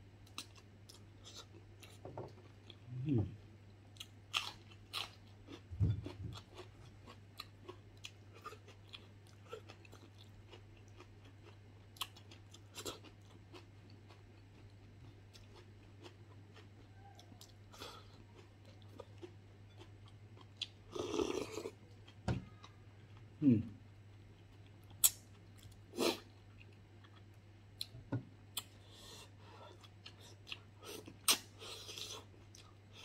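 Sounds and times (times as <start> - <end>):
low electrical hum: 0.0 - 33.0
chewing with crunches: 3.9 - 23.3, 23.9 - 27.9, 28.6 - 33.0.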